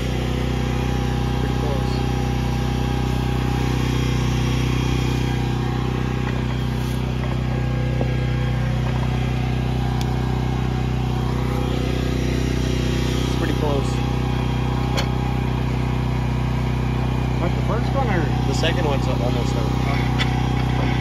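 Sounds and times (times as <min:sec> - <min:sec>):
hydraulic power unit engine running: 0:00.0 - 0:21.0.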